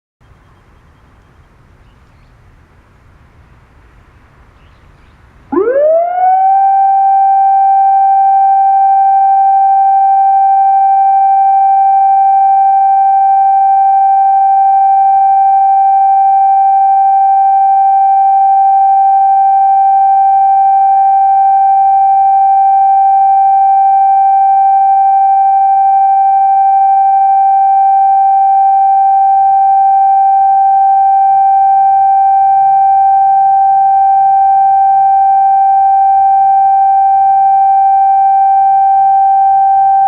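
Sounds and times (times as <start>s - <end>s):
loudspeaker siren steady tone: 5.5s - 40.0s.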